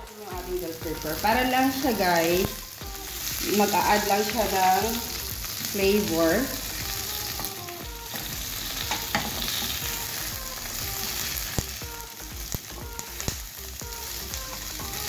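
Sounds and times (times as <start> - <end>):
peppers sizzling in hot oil: 0.0 - 15.0.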